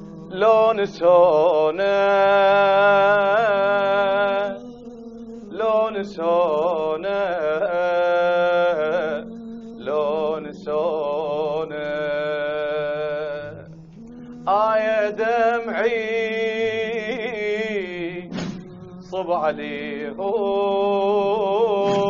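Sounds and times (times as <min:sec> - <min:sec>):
person singing a slow lament: 0:00.3 - 0:04.6, 0:05.5 - 0:13.7, 0:14.4 - 0:22.0.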